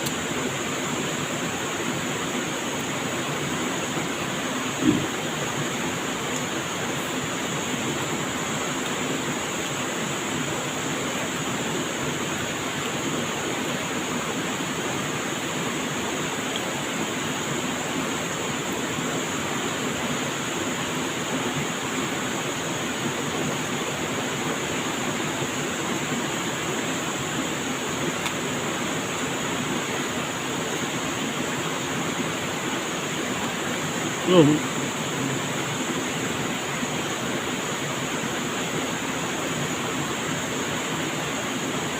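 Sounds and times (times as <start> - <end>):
flowing water rushing: 0.0 - 41.9
high hiss: 0.0 - 41.9.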